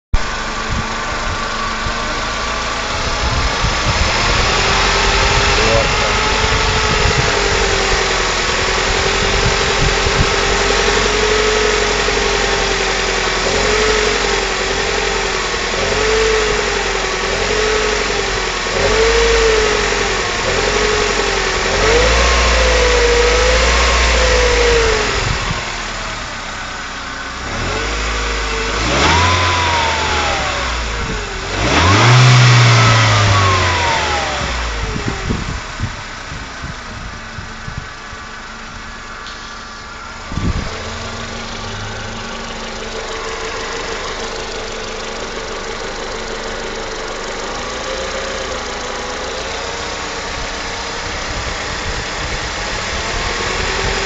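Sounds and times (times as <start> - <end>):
car engine idling and revving: 0.1 - 54.0.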